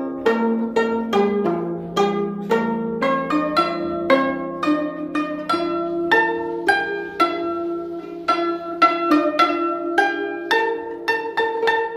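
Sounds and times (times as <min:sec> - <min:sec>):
zither playing slow melody: 0:00.0 - 0:11.9.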